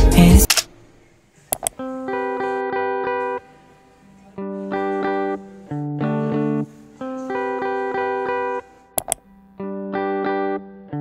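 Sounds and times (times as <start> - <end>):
instrumental background music: 0.0 - 0.5, 1.6 - 11.0.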